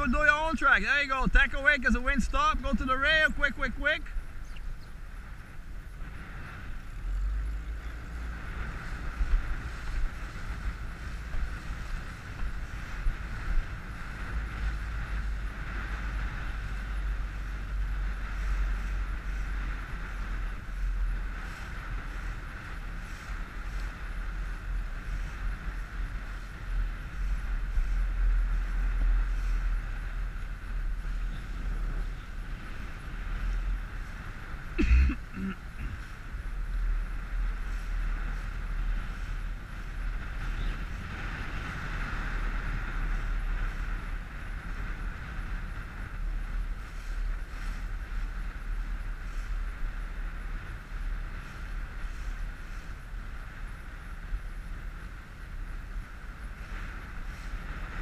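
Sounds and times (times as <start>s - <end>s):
wind buffeting microphone: 0.0s - 58.0s
outboard motor running: 4.4s - 53.4s.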